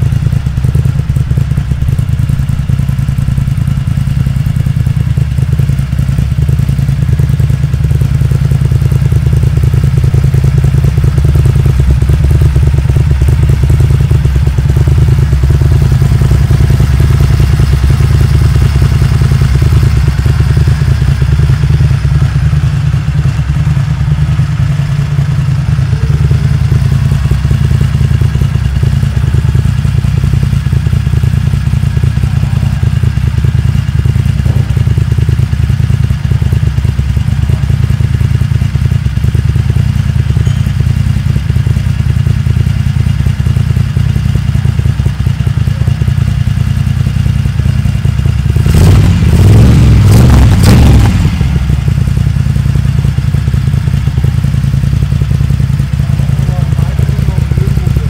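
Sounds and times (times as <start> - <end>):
motorcycle engine deep pulsing: 0.0 - 58.0.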